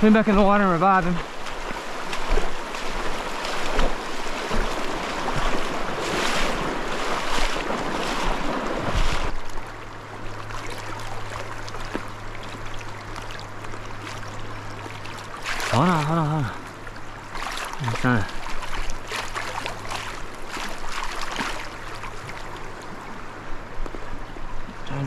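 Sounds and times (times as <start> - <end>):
steady low hum: 0.0 - 25.0
stream rushing over rocks: 0.0 - 25.0
water splashes: 0.0 - 25.0.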